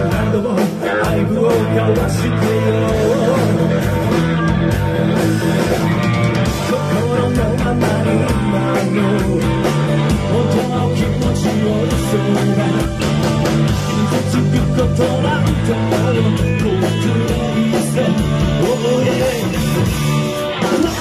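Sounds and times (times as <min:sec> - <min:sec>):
man singing: 0:00.0 - 0:04.1, 0:06.5 - 0:21.0
live rock band playing: 0:00.0 - 0:21.0.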